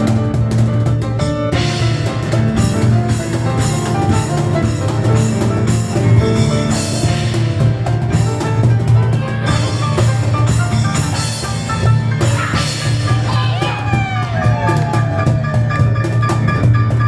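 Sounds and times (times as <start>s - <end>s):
cajon beat: 0.0s - 17.0s
quick piano notes: 0.0s - 17.0s.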